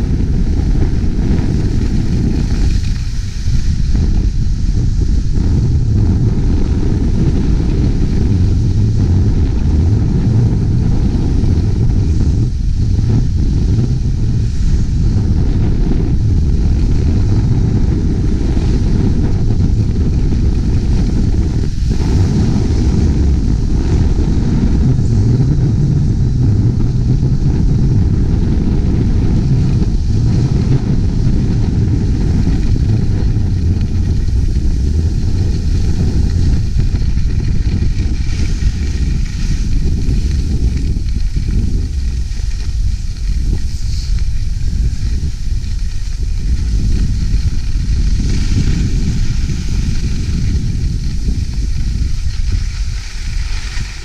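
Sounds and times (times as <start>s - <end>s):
skis sliding on snow: 0.0s - 54.0s
wind buffeting microphone: 0.0s - 54.0s.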